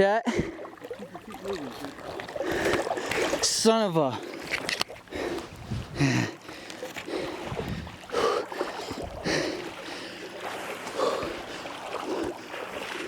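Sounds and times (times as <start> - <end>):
person wading through water: 0.3 - 13.0.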